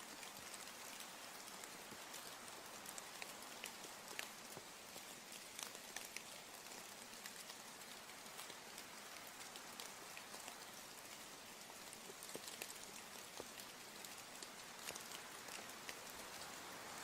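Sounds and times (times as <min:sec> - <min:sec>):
steady rain falling: 0:00.0 - 0:17.0
raindrops ticking: 0:00.1 - 0:17.0.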